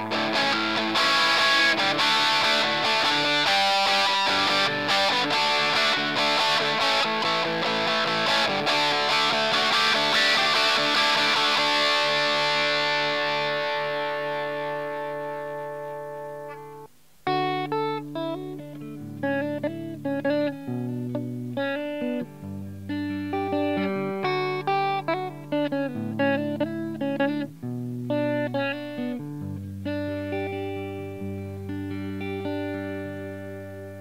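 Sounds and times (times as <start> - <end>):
clean electric guitar playing: 0.0 - 34.0
distorted electric guitar chord: 0.0 - 34.0.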